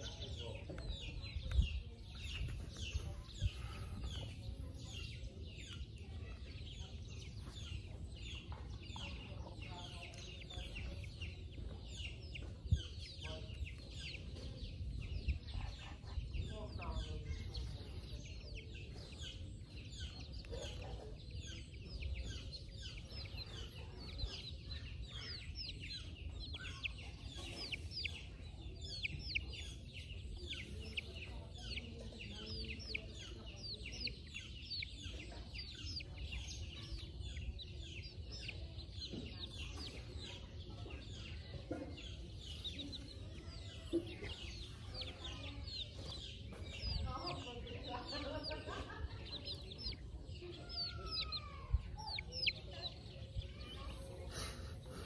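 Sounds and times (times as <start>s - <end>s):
chickens clucking: 0.0s - 55.0s
chicks peeping: 0.0s - 55.0s.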